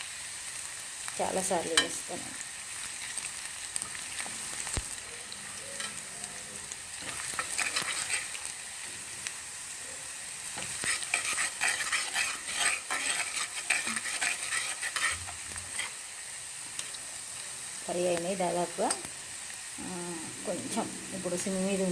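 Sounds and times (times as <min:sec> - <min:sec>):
battered food deep-frying in oil: 0:00.0 - 0:21.9.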